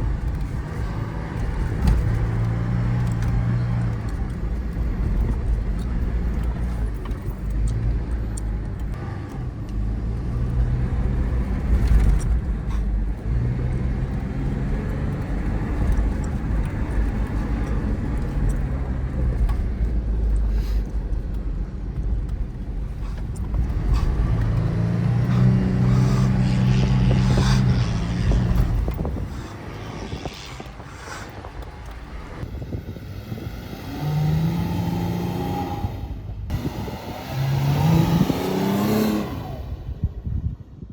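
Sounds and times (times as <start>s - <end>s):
suv engine revving: 0.0s - 40.2s.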